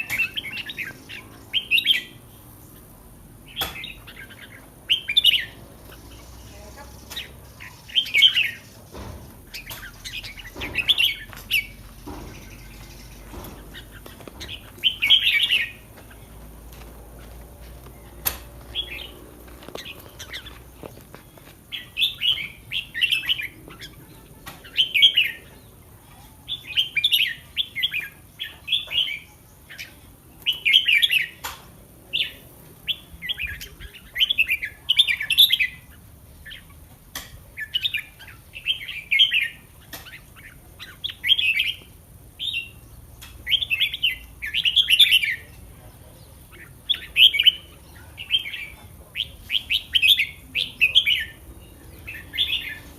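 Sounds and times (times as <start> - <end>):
bird singing warbled phrases: 0.0 - 52.9.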